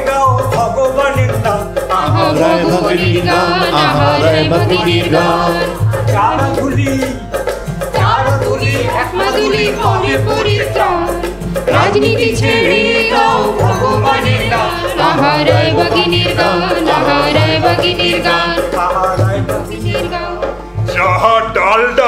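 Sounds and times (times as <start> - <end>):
hand drum beat: 0.0 - 21.7
keyboard: 0.0 - 22.0
person singing: 1.9 - 7.3, 8.0 - 22.0
harmonium: 2.0 - 21.0.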